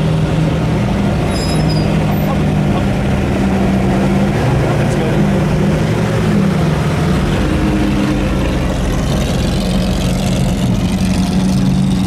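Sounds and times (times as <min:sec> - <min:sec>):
sports car exhaust drone: 0:00.0 - 0:12.0.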